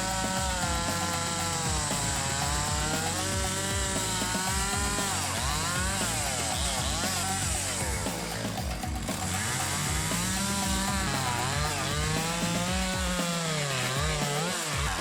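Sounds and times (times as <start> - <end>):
background music with steady beat: 0.0 - 15.0
chainsaw engine revving: 0.0 - 15.0.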